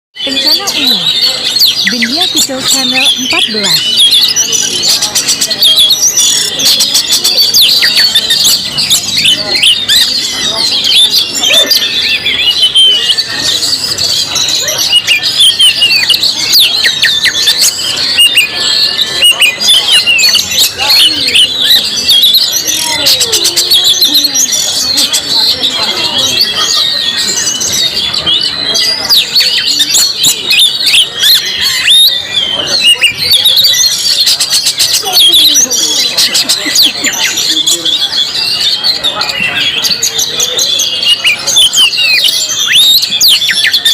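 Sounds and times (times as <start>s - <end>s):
bird singing whistled notes: 0.2s - 43.9s.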